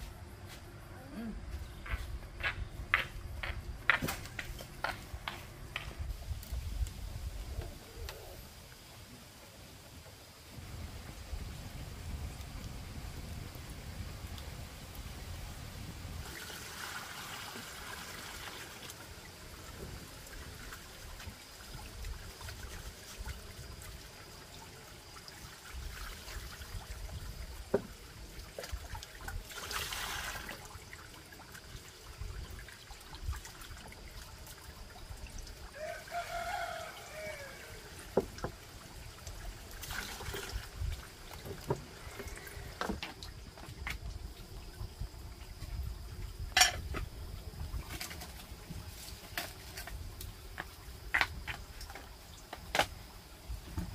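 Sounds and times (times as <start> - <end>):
water pouring and trickling: 3.3 - 53.9.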